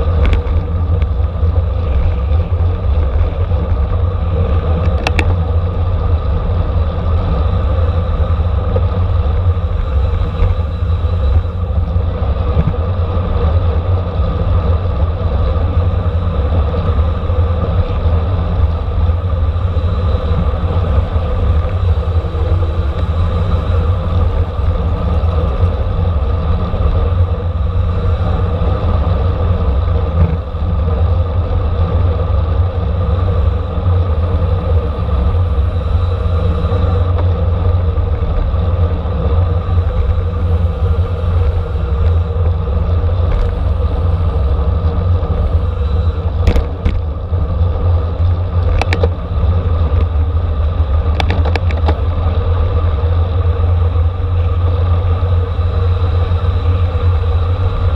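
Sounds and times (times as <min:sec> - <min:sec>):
tyre and road noise: 0:00.0 - 0:57.9
wind rush on microphone: 0:00.0 - 0:57.9.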